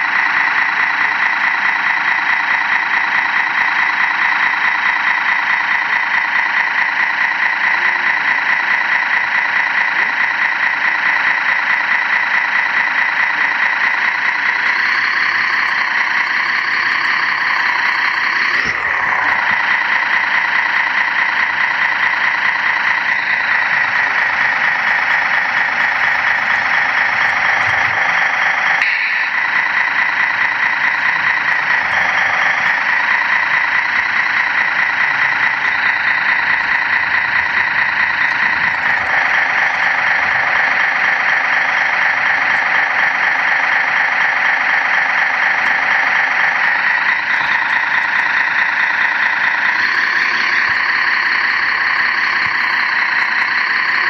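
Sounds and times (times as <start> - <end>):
model truck engine running: 0.0 - 54.0.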